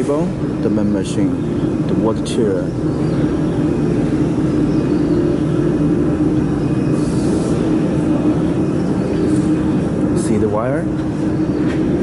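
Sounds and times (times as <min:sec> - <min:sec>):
workshop machinery drone: 0:00.0 - 0:12.0.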